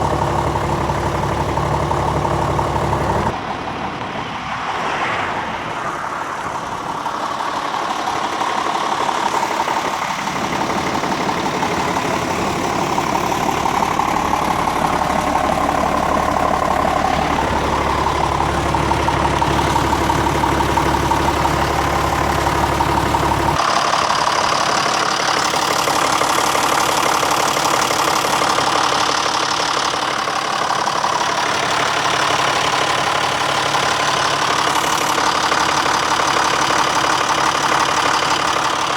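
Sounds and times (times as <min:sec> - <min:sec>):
tractor diesel engine running: 0:00.0 - 0:04.2, 0:06.0 - 0:38.9.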